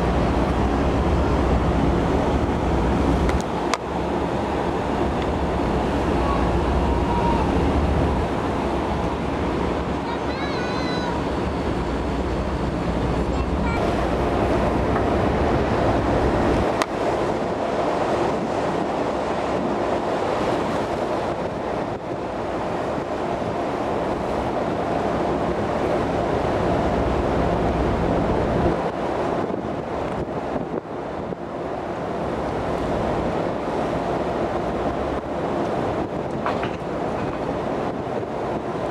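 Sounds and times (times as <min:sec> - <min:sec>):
sea wash: 0:00.0 - 0:38.9
wind on microphone: 0:00.0 - 0:38.9.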